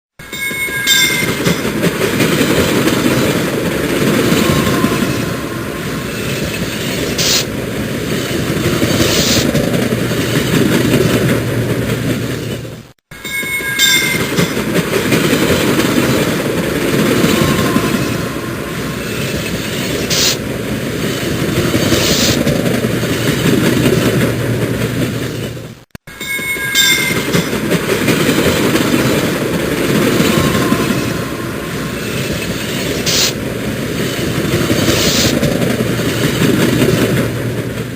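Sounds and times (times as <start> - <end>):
metro train rumbling on rails: 0.1 - 37.9.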